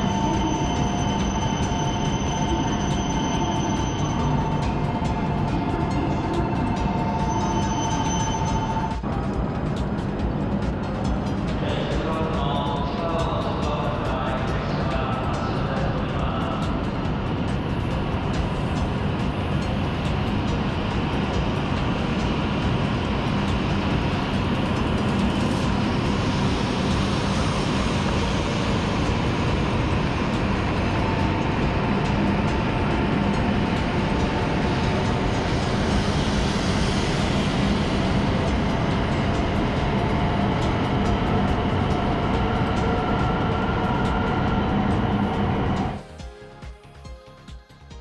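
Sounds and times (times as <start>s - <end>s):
faint tonal whine: 0.0s - 46.2s
train rumble and rushing: 0.0s - 48.0s.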